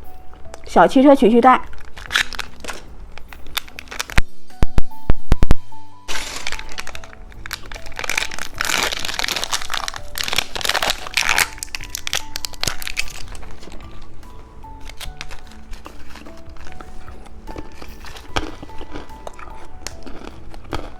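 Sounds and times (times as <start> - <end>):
soft background music: 0.0 - 20.9
hard candy crunching: 1.6 - 4.8, 5.4 - 20.9.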